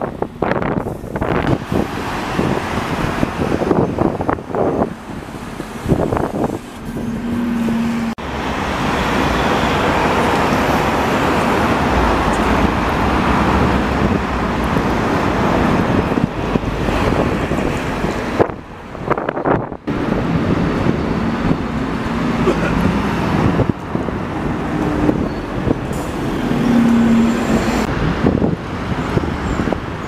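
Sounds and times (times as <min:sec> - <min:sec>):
street traffic: 0:00.0 - 0:30.0
wind on microphone: 0:00.0 - 0:30.0
vehicle passing close by: 0:00.4 - 0:29.5.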